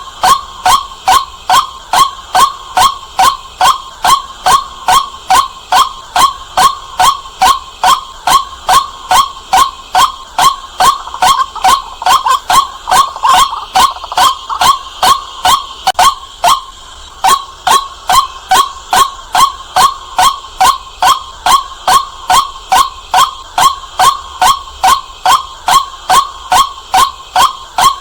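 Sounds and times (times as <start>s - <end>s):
waterhen calling: 0.0s - 28.0s.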